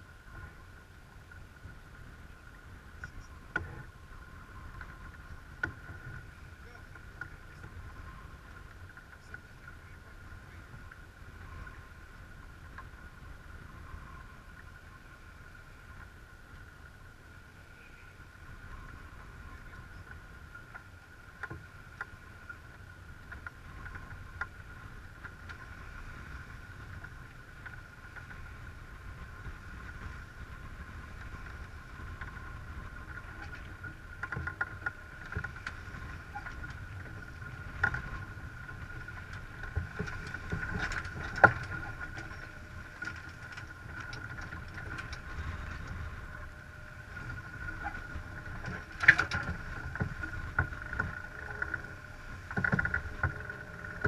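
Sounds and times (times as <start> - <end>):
water rushing along a hull: 0.0 - 54.0.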